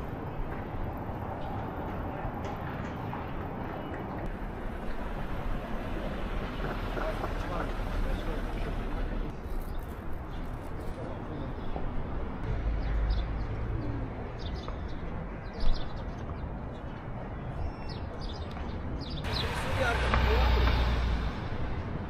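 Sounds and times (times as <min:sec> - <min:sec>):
outdoor street noise: 0:00.0 - 0:22.0.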